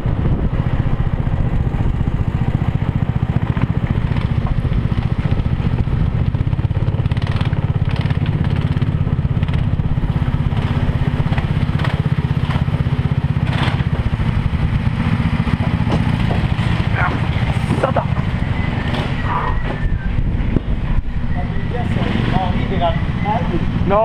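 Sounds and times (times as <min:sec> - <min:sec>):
go-kart engine at low revs: 0:00.0 - 0:24.0.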